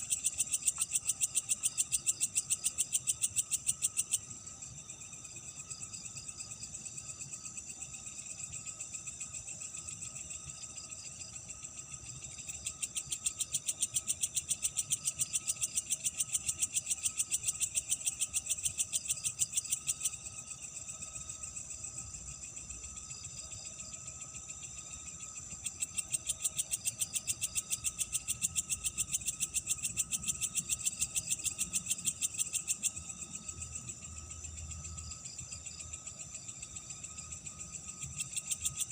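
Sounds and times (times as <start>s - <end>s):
crickets trilling: 0.0s - 38.9s
rapid pulsing insect call: 0.0s - 38.9s.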